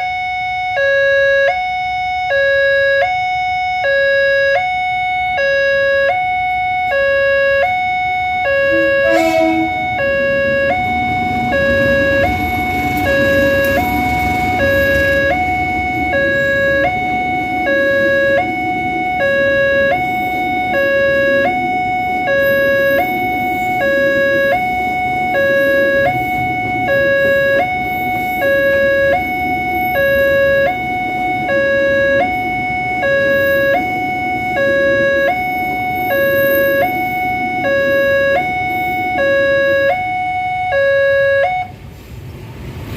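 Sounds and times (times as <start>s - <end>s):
two-tone level-crossing siren: 0.0s - 41.8s.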